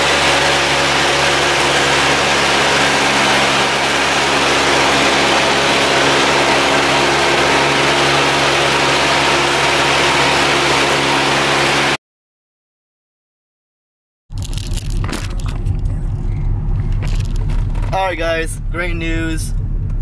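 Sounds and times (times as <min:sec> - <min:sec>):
airplane engine and propeller drone: 0:00.0 - 0:12.0, 0:14.5 - 0:20.0.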